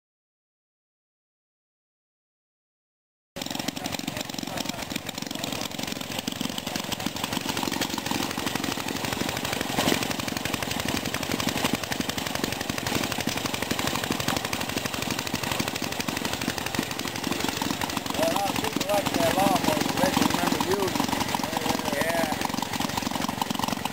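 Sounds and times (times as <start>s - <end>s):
old engines popping and banging: 3.4s - 23.9s.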